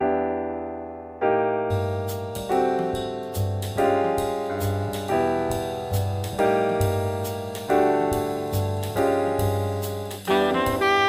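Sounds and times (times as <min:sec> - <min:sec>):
piano chords: 0:00.0 - 0:11.0
steady beat: 0:01.8 - 0:11.0.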